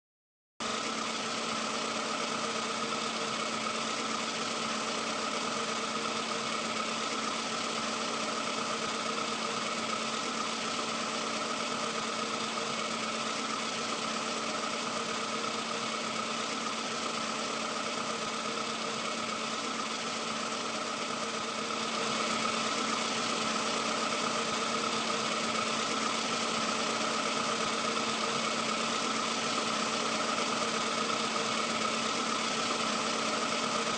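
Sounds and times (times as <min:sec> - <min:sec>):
engine idling: 0:00.6 - 0:33.9.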